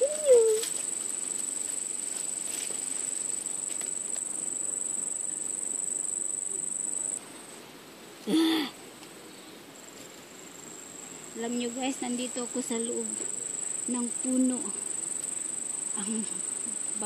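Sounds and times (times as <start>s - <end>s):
insects trilling: 0.0s - 7.2s, 9.3s - 17.0s.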